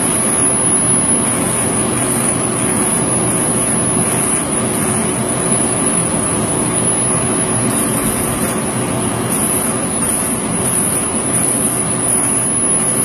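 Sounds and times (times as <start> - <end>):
laser engraving machine rushing: 0.0 - 13.0
thin high machine whine: 0.0 - 13.0.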